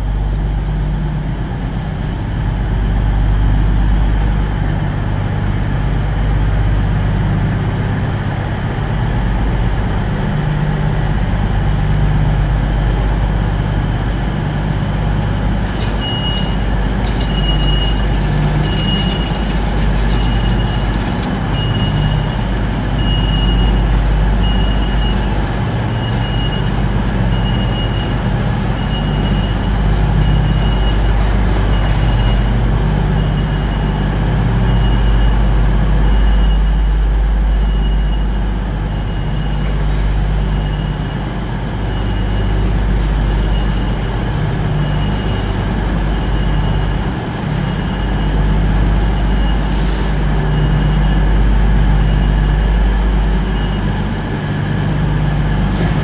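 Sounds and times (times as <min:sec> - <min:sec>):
diesel train engine idling: 0:00.0 - 0:56.0.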